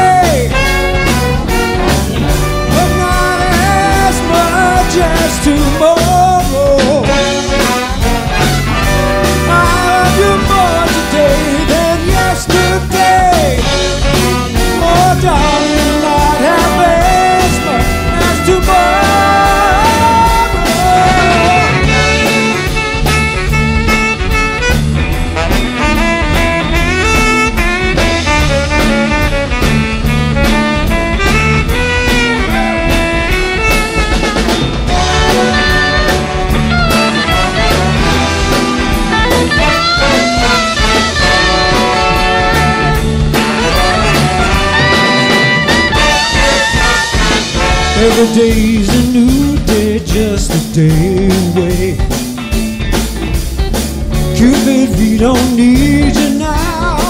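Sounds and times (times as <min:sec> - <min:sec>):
saxophones and trumpets: 0:00.0 - 0:49.0
drum kit: 0:00.0 - 0:57.0
electric guitar: 0:00.0 - 0:57.0.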